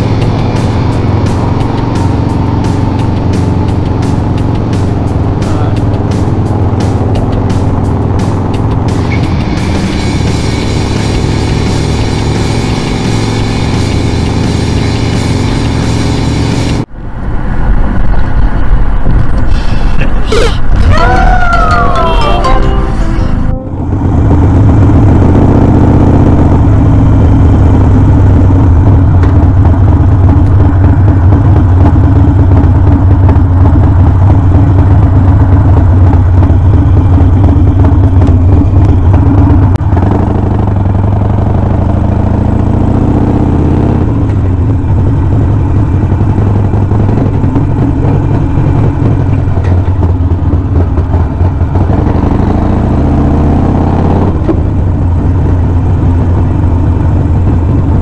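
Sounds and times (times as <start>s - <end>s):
motorcycle engine running: 0.0s - 17.0s, 22.7s - 58.0s.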